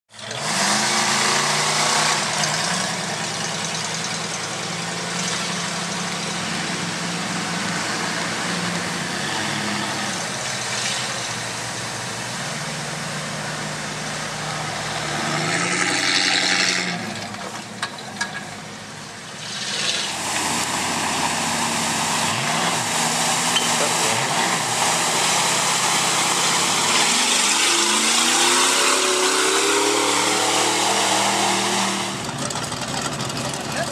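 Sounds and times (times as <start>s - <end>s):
truck engines revving: 0.1s - 33.9s.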